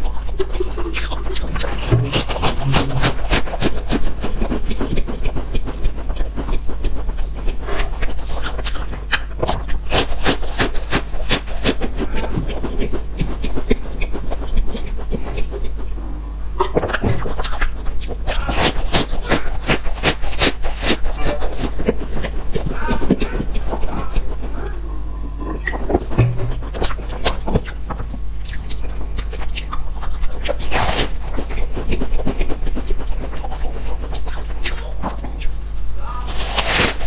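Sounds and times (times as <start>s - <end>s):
crunching and chewing snacks: 0.0s - 16.0s, 16.6s - 24.7s, 25.4s - 37.0s.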